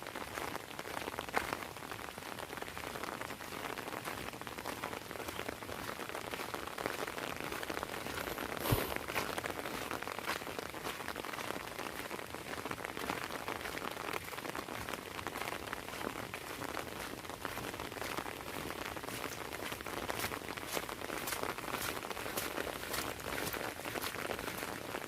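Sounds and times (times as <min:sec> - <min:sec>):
heavy rain on ground: 0:00.0 - 0:25.0
rain pattering on an umbrella: 0:00.0 - 0:25.0.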